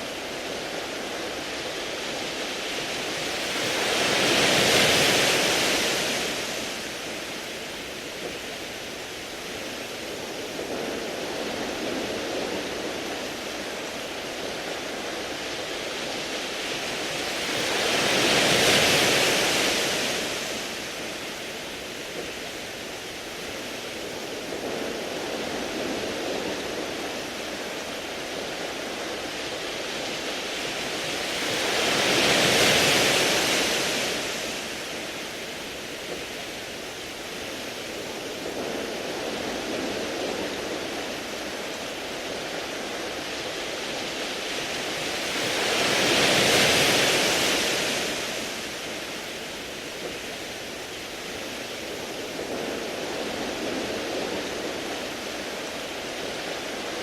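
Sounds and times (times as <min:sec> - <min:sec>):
waves washing over pebbles: 0:00.0 - 0:57.0.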